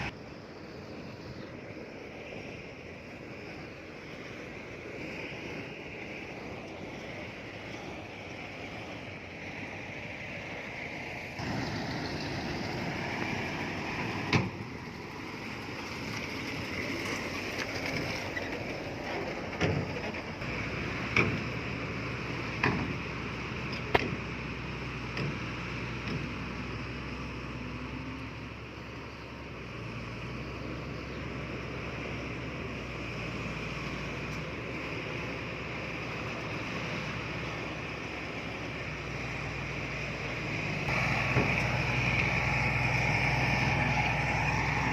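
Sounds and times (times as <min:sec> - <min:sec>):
diesel engine running: 0:00.0 - 0:44.9
noisy hiss: 0:00.0 - 0:44.9.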